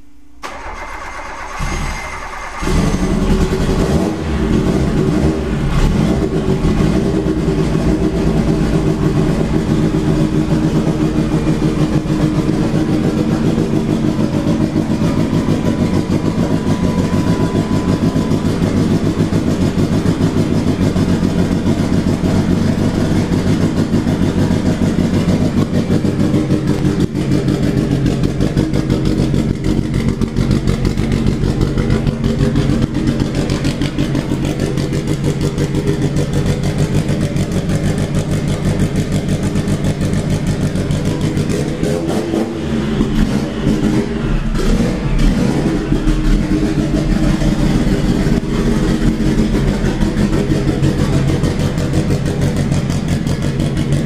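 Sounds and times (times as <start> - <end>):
race car engine idling: 0.1 - 54.0.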